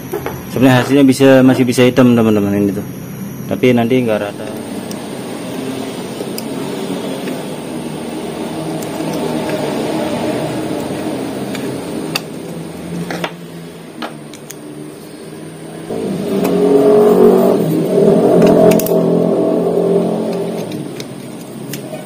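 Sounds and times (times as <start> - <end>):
engine running: 2.2 - 22.0.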